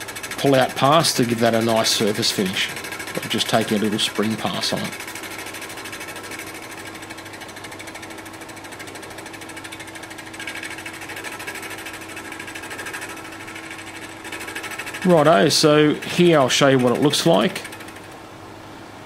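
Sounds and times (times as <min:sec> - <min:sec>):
fast even ticking: 0:00.0 - 0:18.3
milling machine humming: 0:00.0 - 0:19.0.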